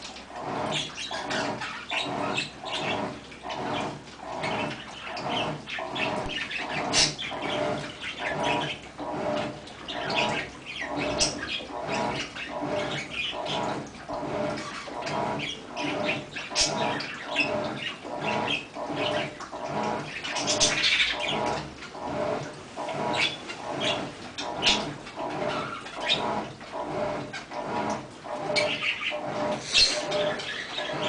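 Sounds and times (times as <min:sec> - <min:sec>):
washing machine agitating: 0:00.0 - 0:31.0
water and clothes sloshing: 0:00.0 - 0:31.0.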